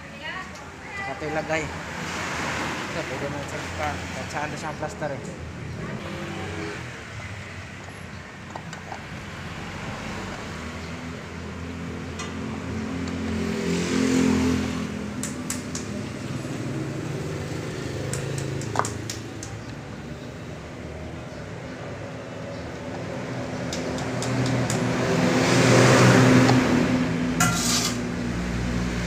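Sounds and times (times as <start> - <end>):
vehicle engine: 1.6 - 29.0.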